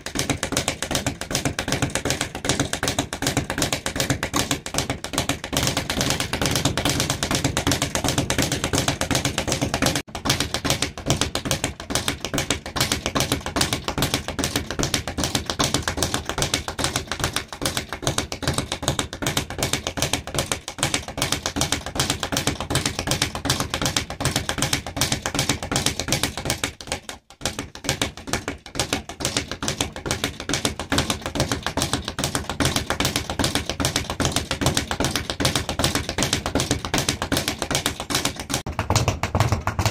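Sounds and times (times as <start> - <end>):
speed bag rapid taps: 0.0 - 39.9.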